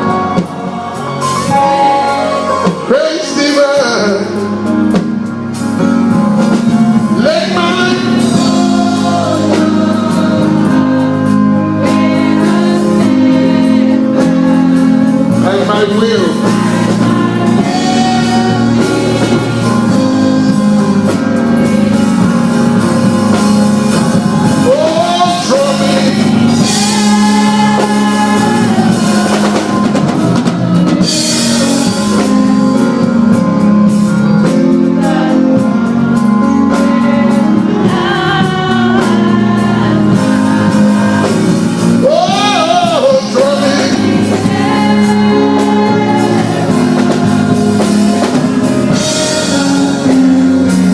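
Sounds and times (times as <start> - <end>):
band playing chords and drums: 0.0 - 50.9.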